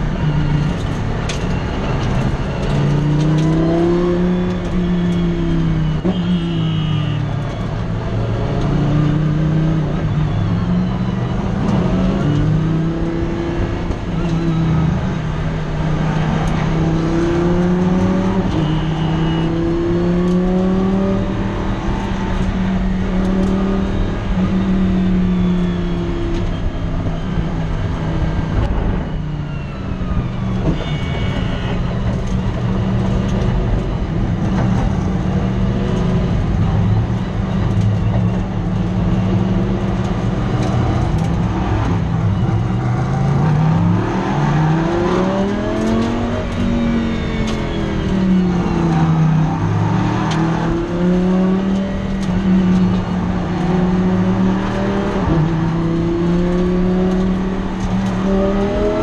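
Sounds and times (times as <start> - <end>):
race car engine revving: 0.0 - 29.2, 32.1 - 59.0.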